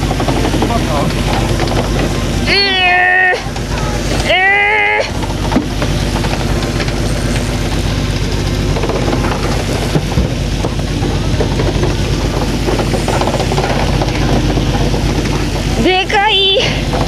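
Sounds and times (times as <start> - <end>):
boat engine running: 0.0 - 17.0
wind: 0.0 - 17.0.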